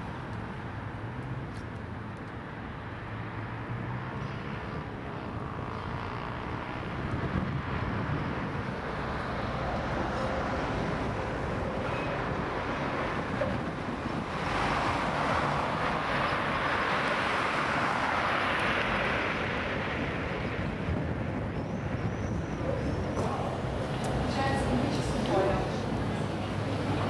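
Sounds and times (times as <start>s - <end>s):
tyre noise of passing cars: 0.0s - 27.0s.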